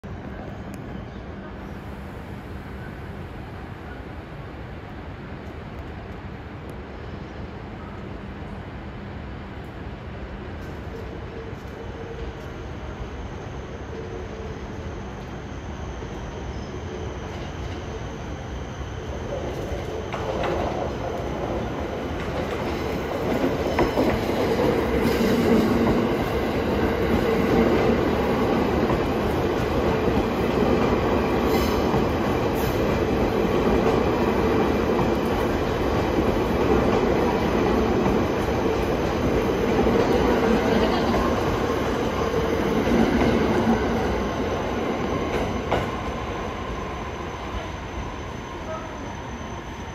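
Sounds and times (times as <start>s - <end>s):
train wheels rumbling on track: 0.1s - 49.9s.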